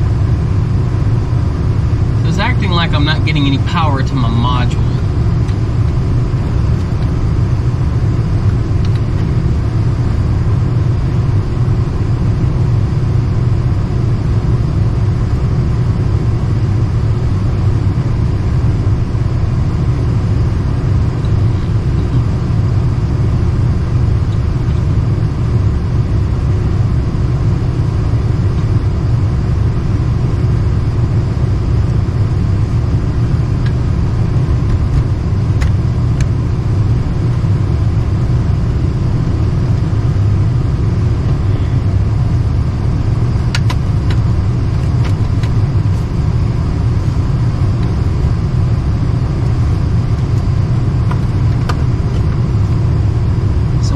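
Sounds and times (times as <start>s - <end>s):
blower running with rumbling hum: 0.0s - 53.9s.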